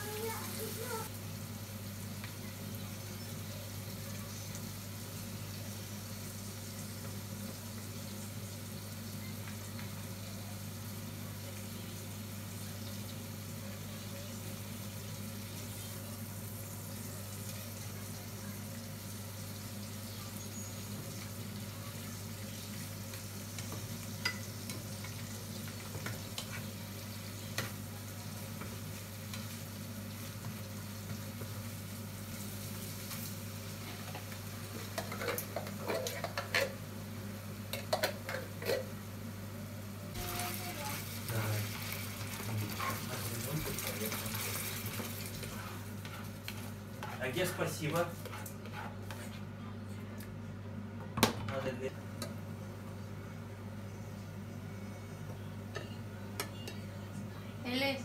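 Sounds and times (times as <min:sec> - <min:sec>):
shrimp sizzling in frying pan: 0:00.0 - 0:48.6.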